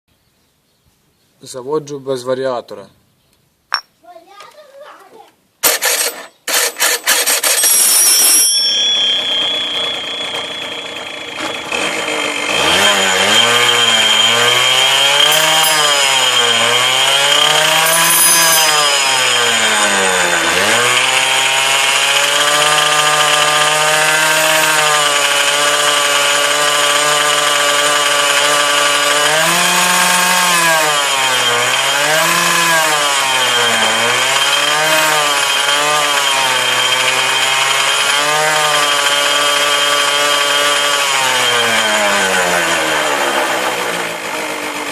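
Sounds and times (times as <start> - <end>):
scooter engine starting and revving: 5.6 - 7.8, 9.2 - 44.9.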